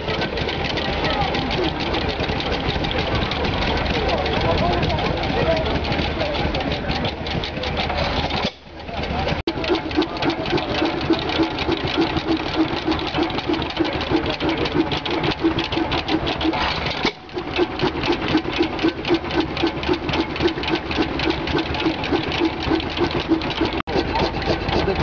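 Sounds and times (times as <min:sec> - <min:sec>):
stationary engine rhythmic beat: 0:00.0 - 0:25.0.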